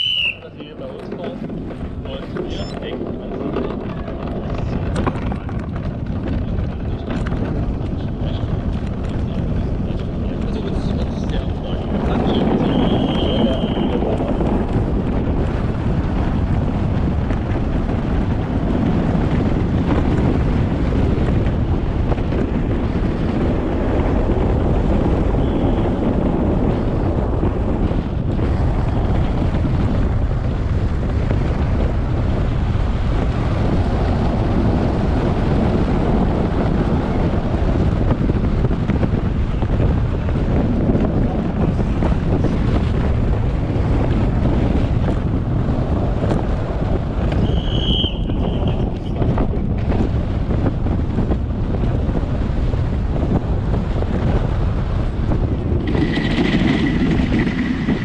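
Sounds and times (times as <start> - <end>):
wheels rolling on asphalt: 0.0 - 58.0
wind buffeting microphone: 0.0 - 58.0.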